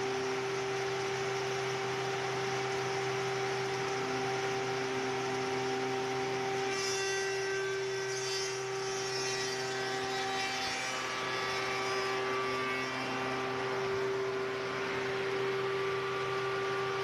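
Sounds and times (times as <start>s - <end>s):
machine motor hum: 0.0s - 6.7s, 7.4s - 17.0s.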